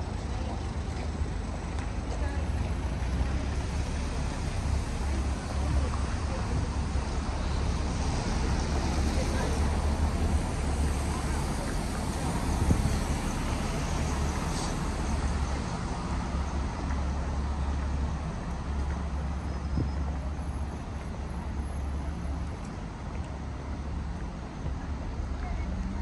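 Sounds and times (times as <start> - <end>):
road traffic rumble and hiss: 0.0 - 26.0.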